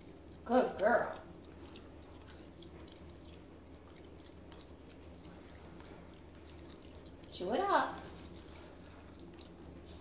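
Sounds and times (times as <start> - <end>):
dog chewing leaf: 0.0 - 10.0.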